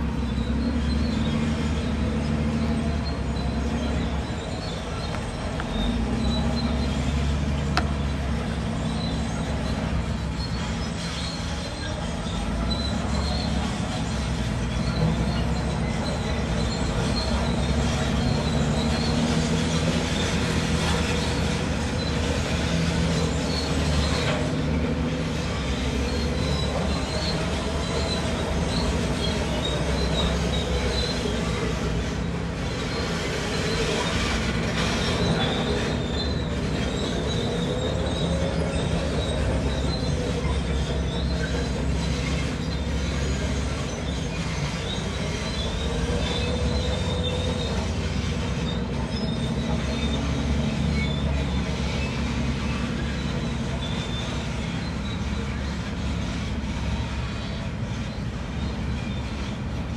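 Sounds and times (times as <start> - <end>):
crawler tracks squealing and clanking: 0.0 - 59.9
diesel engine running: 0.0 - 59.9.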